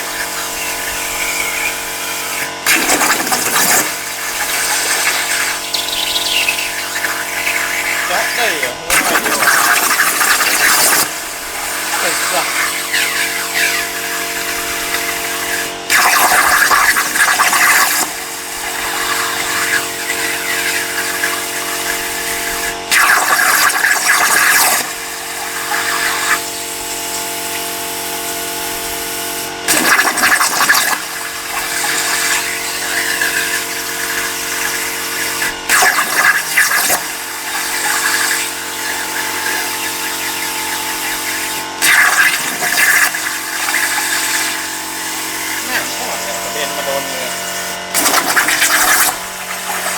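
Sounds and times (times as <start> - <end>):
plasma arc hissing: 0.0 - 27.8, 28.7 - 49.9
steady machine hum: 0.0 - 29.7, 31.0 - 49.9.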